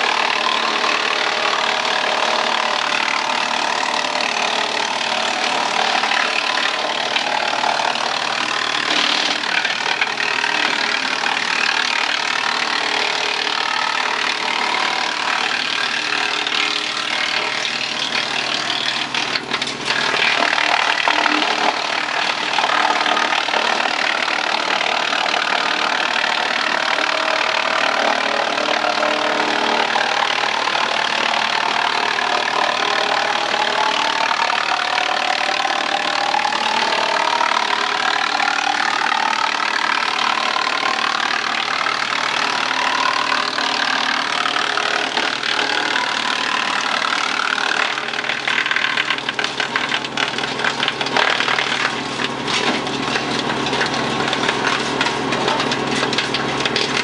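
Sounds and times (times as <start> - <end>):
wood chipper chipping branches: 0.0 - 57.0.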